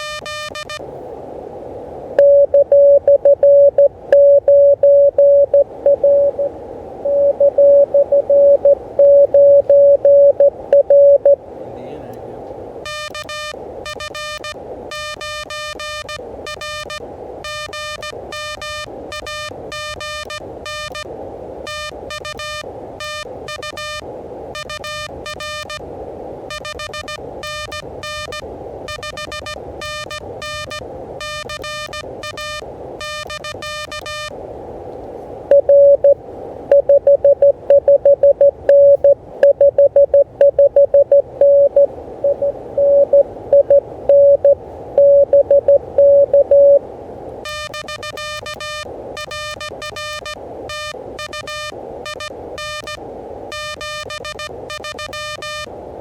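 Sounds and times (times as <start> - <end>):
buzzy morse code sidetone: 0.0 - 0.8, 2.2 - 11.4, 12.8 - 25.8, 26.5 - 34.4, 35.5 - 46.8, 47.4 - 55.7
pure morse code tone: 0.0 - 0.8, 2.2 - 11.4, 12.8 - 25.8, 26.5 - 34.4, 35.5 - 46.8, 47.4 - 55.7
receiver hiss: 0.0 - 56.0.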